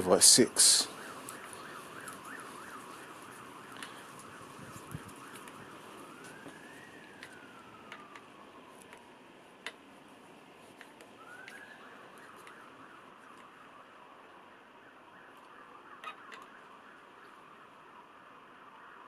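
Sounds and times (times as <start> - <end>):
faint emergency siren: 0.0 - 19.0.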